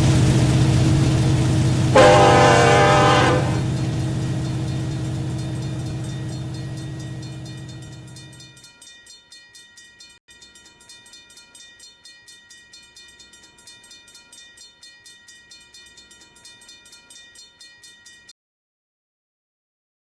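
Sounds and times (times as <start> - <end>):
railroad bell ringing: 0.0 - 18.4.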